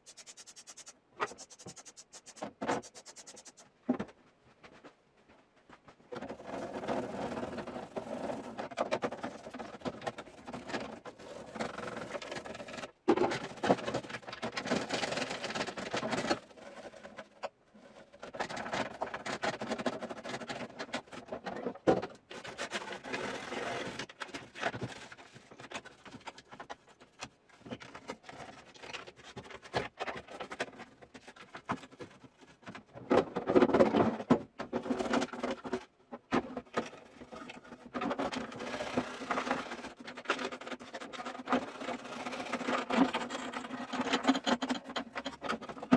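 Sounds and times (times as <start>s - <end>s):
scraping and rattling of parts: 0.0s - 4.9s, 5.6s - 45.9s.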